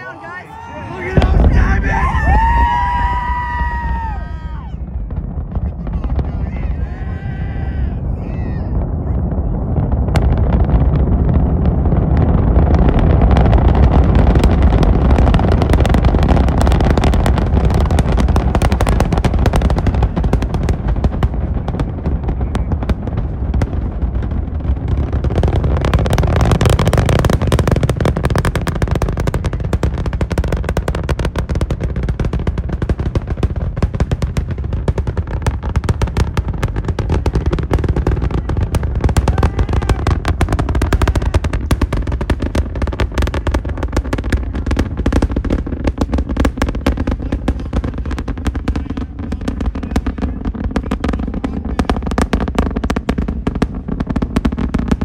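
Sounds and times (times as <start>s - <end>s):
rocket engine rumble and crackle: 0.0s - 55.0s.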